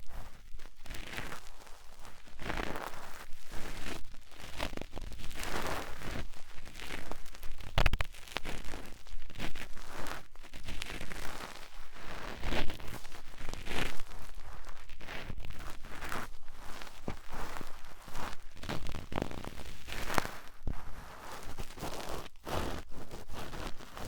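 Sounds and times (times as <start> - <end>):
cotton swab scratching microphone: 4.5 - 24.0.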